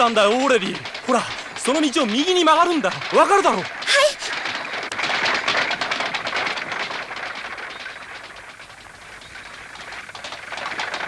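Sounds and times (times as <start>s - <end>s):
hooves clip-clopping on cobblestones: 0.0s - 11.0s
wooden wheels rattling: 0.0s - 11.0s.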